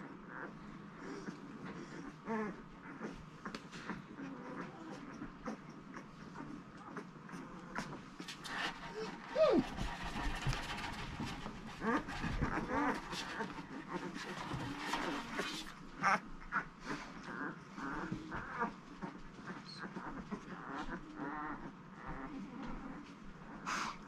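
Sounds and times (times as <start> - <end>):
puppies squeaking and whining: 0.3 - 16.2, 16.8 - 22.2.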